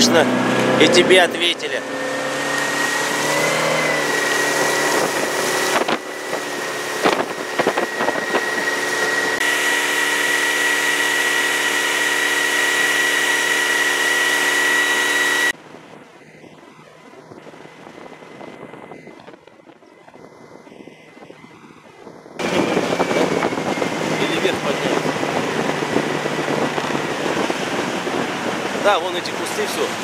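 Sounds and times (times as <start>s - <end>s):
boat motor whining: 0.0s - 30.0s
wind and water noise: 0.0s - 30.0s.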